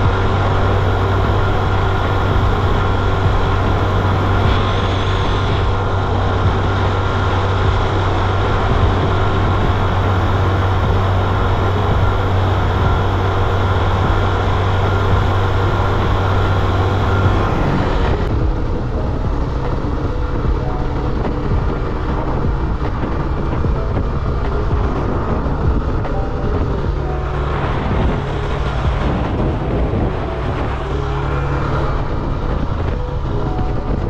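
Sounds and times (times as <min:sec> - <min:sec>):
car engine hum: 0:00.0 - 0:34.0
road and wind noise: 0:00.0 - 0:34.0.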